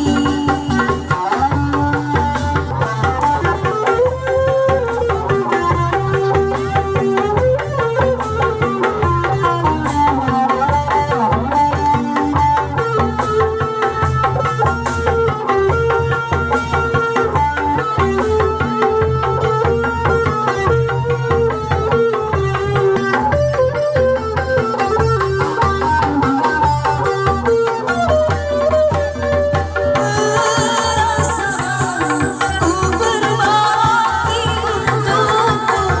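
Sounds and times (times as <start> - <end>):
hand drum beat: 0.0 - 36.0.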